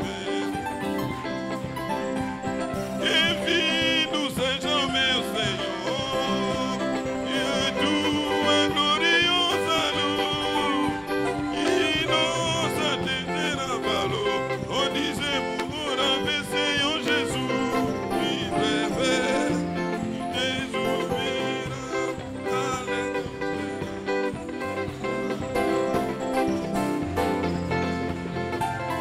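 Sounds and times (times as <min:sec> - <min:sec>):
conga drums: 0:00.0 - 0:29.0
drum kit: 0:00.0 - 0:29.0
person singing: 0:00.0 - 0:29.0.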